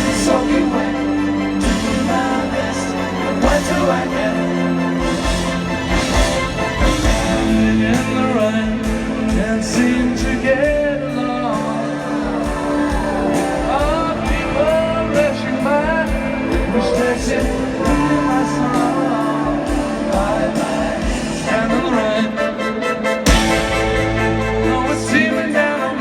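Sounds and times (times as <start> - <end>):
steady drum beat: 0.0 - 25.9
live rock band with orchestra: 0.0 - 26.0
person singing: 0.0 - 26.0.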